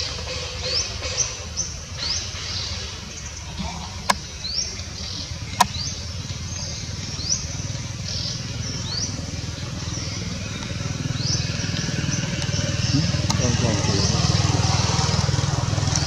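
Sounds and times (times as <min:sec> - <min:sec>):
low motor drone: 0:00.0 - 0:16.0.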